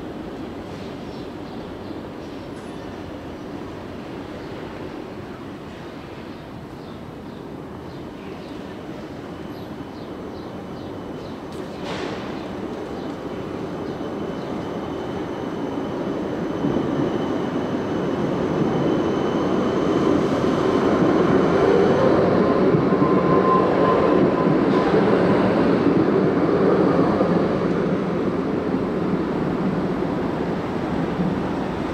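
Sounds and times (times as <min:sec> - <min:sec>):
tram wheels rumbling on rails: 0:00.0 - 0:31.9.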